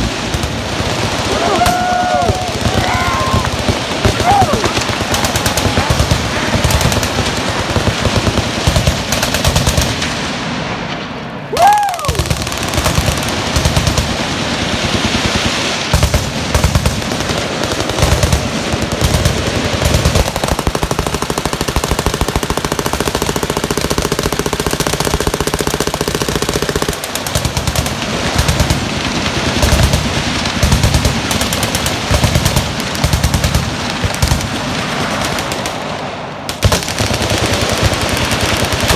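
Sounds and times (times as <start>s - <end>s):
machine guns firing: 0.0s - 10.4s, 12.1s - 38.9s.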